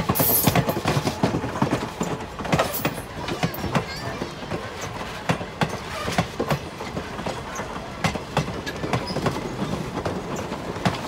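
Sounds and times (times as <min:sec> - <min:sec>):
train rumble: 0:00.0 - 0:11.0
train wheels clicking on rails: 0:00.0 - 0:11.0.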